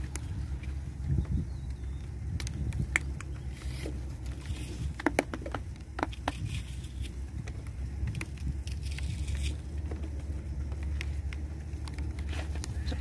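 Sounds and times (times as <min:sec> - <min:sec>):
wind rumbling on microphone: 0:00.0 - 0:13.0
small clicks and crackles: 0:01.7 - 0:13.0.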